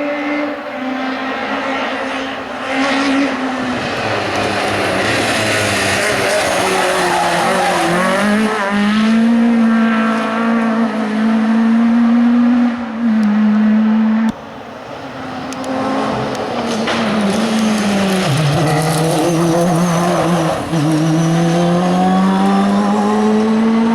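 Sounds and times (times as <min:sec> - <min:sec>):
quieter engine: 0:00.0 - 0:23.9
racing car engine at high revs: 0:00.0 - 0:23.9.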